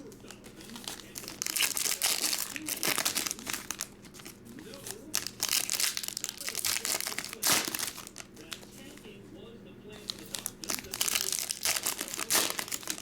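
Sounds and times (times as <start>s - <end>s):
plastic wrappers crinkling and tearing: 0.0s - 9.0s, 10.0s - 13.0s.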